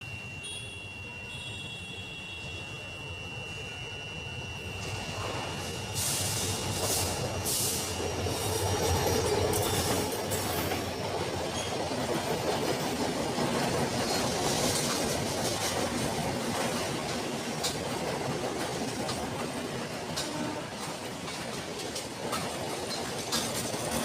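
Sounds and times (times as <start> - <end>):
train wheels rumbling on rails: 2.7 - 24.0.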